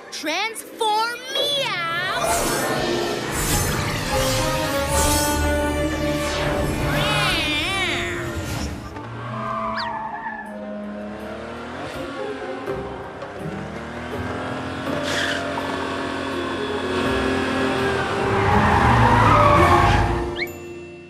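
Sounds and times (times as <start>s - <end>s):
cartoon soundtrack music: 0.0s - 21.0s.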